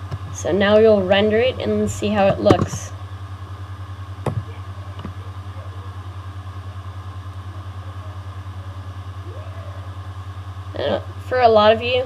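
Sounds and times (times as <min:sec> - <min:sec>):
pulsing low hum: 0:00.0 - 0:12.0.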